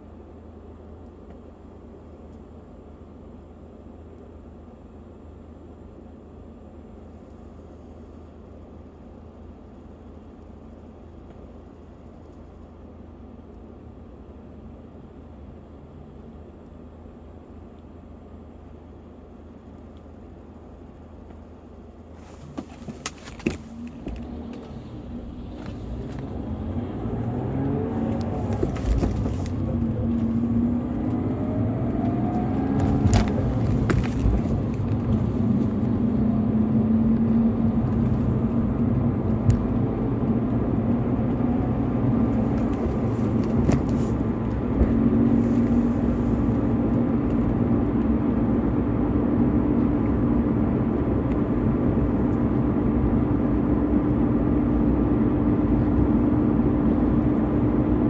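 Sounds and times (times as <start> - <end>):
car engine running under load: 0.0 - 58.0.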